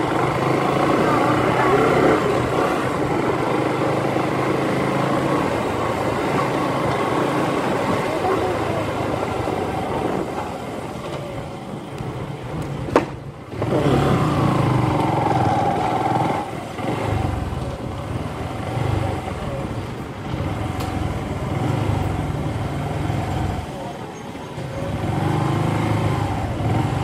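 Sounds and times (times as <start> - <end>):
motorcycle engine revving: 0.0 - 23.8, 24.6 - 27.0
road noise: 0.0 - 27.0.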